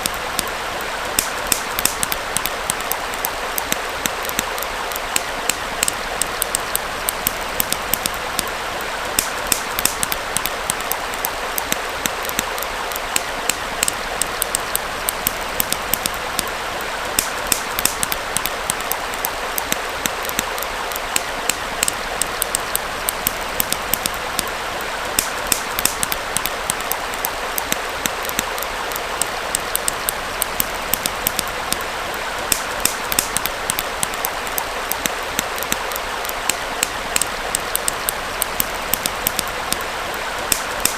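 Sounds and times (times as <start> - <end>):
campfire crackling: 0.0 - 40.9
stream flowing: 0.0 - 40.9.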